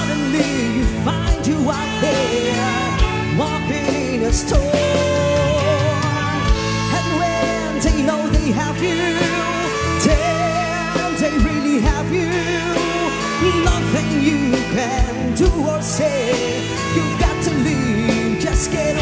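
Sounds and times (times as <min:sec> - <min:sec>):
lead vocal with vibrato: 0:00.0 - 0:19.0
live pop band: 0:00.0 - 0:19.0.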